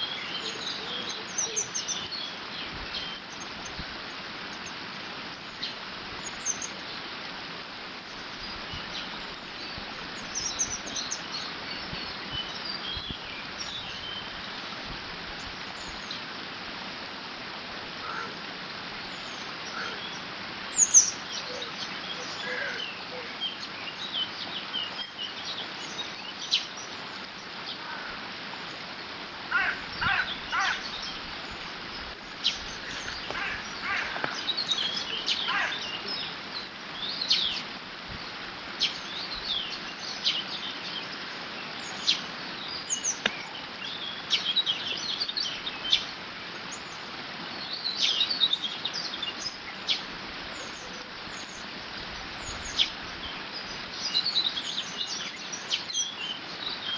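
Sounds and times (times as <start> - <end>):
bird calls and chirps: 0.0 - 7.0, 8.0 - 14.5, 19.1 - 56.9.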